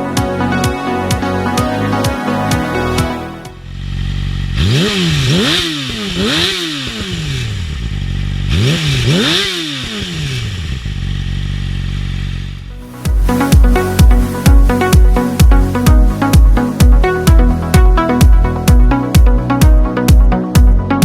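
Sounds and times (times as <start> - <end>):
motorcycle engine revving: 0.1 - 20.8.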